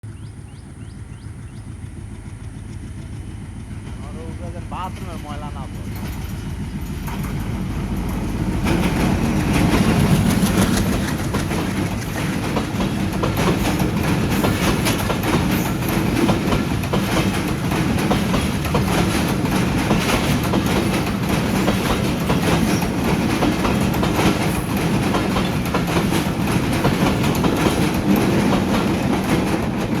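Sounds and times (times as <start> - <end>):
train wheels clicking over rails: 0.1 - 30.0.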